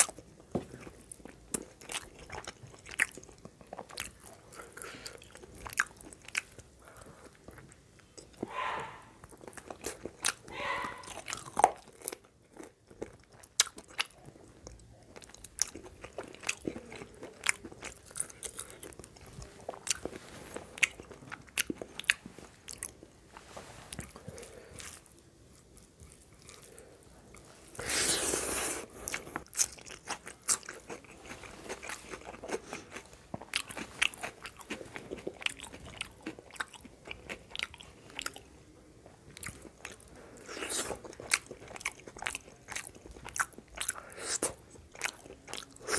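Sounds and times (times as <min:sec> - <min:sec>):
person chewing: 0:00.0 - 0:38.5, 0:39.3 - 0:45.9.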